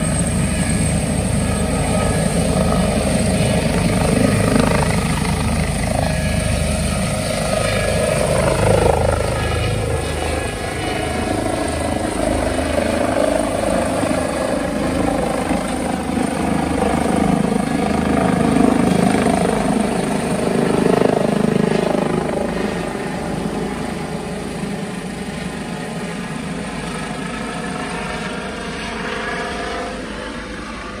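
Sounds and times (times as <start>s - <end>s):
turbine whine: 0.0s - 27.2s
helicopter rotor beat: 0.0s - 31.0s.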